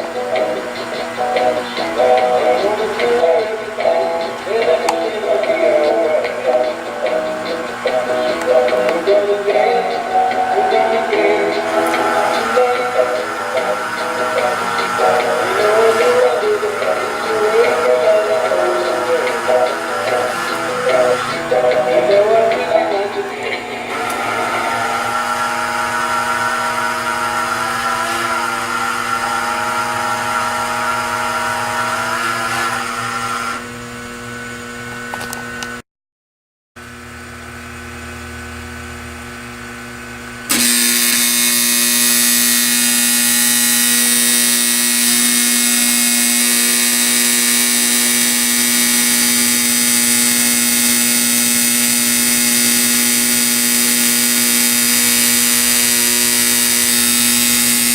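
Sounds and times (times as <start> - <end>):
electric buzz of model train mechanism: 0.0 - 35.8, 36.8 - 57.9.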